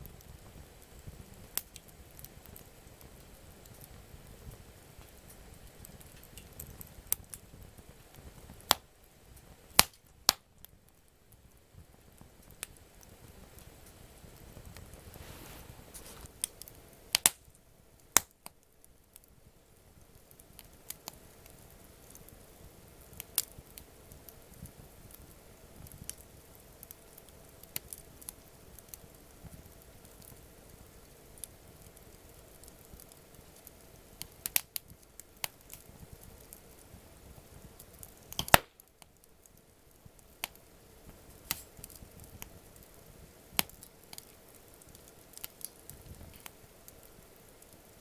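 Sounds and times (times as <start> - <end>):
sharp pops of burning wood: 0.0 - 15.2, 15.9 - 48.0
campfire wood crackling: 0.0 - 48.0.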